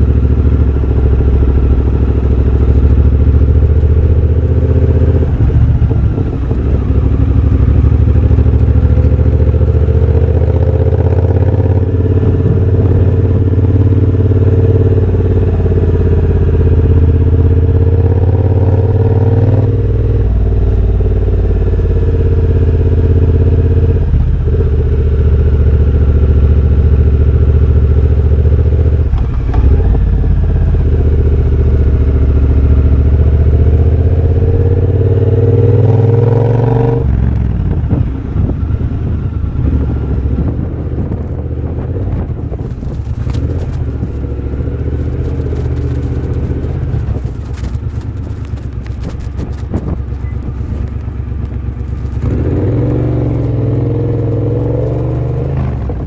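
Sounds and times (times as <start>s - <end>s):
loud motorcycle exhaust: 0.0s - 56.0s.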